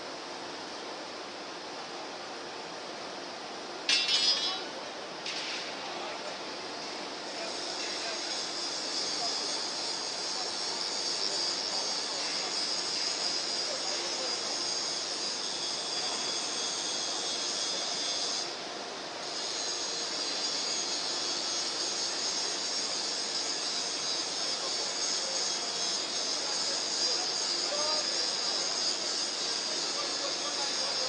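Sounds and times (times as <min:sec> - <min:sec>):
rolling mill machine hiss: 0:04.1 - 0:31.0.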